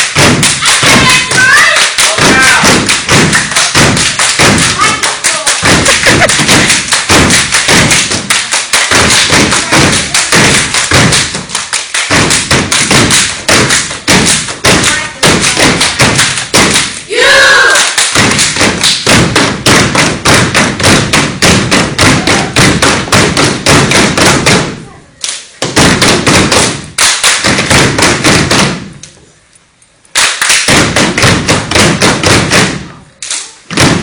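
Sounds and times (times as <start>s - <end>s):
hands clapping: 0.0s - 17.0s, 17.6s - 24.6s, 25.2s - 29.2s, 30.1s - 33.9s
feet stomping on hard floor: 0.2s - 1.5s, 2.2s - 5.0s, 5.6s - 16.9s, 18.1s - 24.8s, 25.6s - 28.9s, 30.7s - 32.9s.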